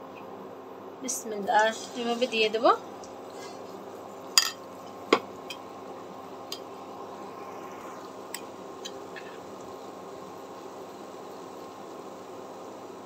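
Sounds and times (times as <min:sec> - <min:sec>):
deep-frying sizzle: 0:01.2 - 0:13.0.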